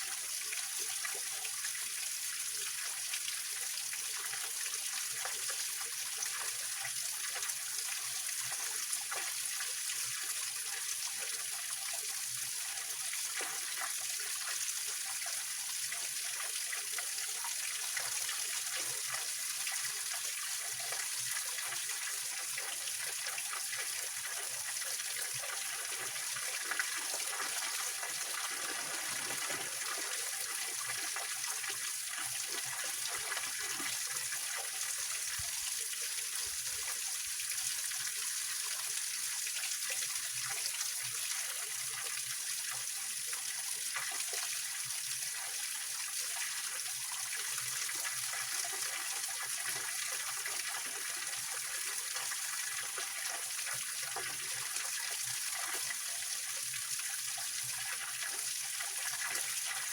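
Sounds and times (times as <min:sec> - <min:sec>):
small waterfall splashing over rocks: 0:00.0 - 0:59.9.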